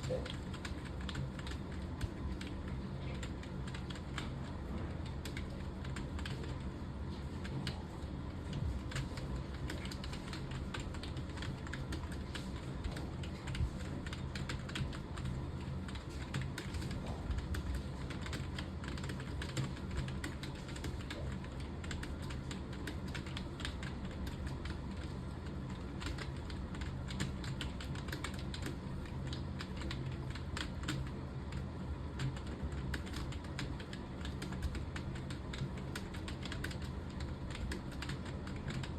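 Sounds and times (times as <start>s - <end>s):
fast keyboard typing: 0.0s - 38.9s
steady low hum: 0.0s - 38.9s.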